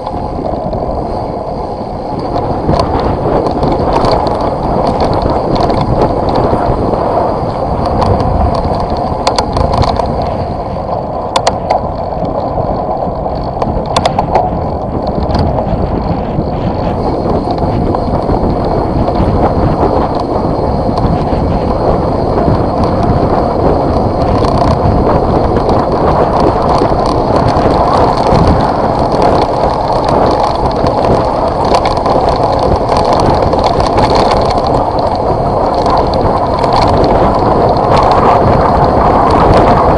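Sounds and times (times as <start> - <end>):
tyres rolling on gravel: 0.0 - 39.9.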